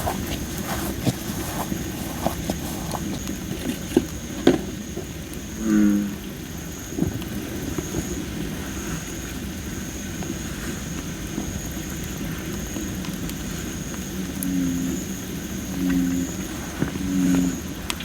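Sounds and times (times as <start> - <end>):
campfire crackling: 0.0 - 5.6, 6.2 - 18.0.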